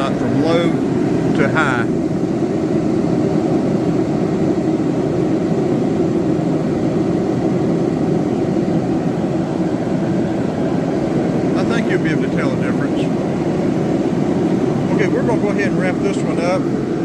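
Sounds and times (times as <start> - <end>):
forced-air heater running: 0.0 - 17.0.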